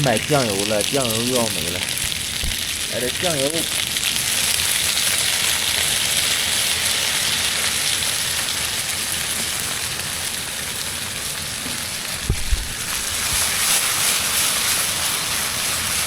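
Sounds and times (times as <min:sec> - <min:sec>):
chicken sizzling in a frying pan: 0:00.0 - 0:16.0.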